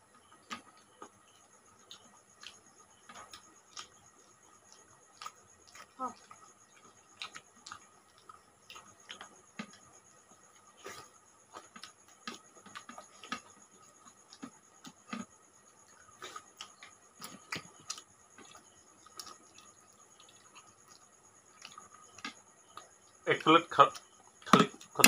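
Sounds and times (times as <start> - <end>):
people eating with hands: 0.3 - 25.0.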